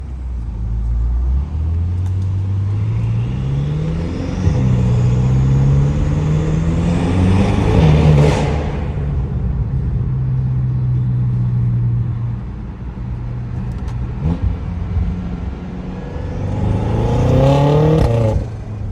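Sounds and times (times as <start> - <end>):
car engine accelerating: 1.2 - 10.8, 13.0 - 18.9.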